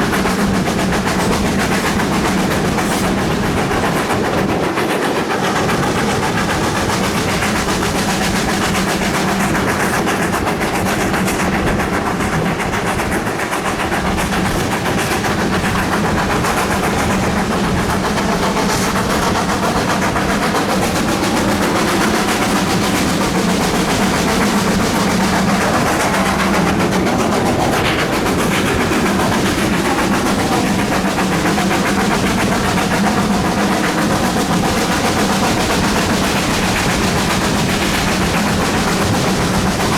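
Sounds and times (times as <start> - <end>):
steam locomotive exhaust beats: 0.0 - 39.9
train clatter: 0.0 - 39.9.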